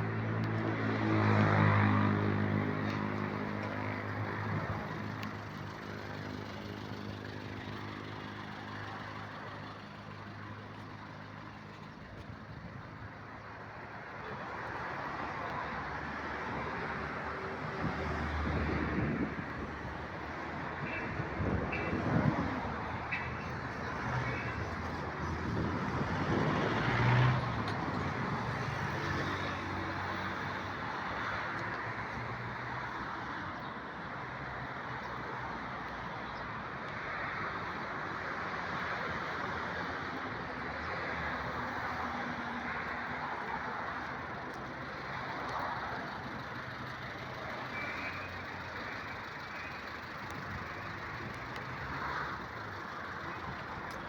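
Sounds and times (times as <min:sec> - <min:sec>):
road traffic: 0:00.0 - 0:54.0
vehicles passing loudly: 0:00.0 - 0:54.0.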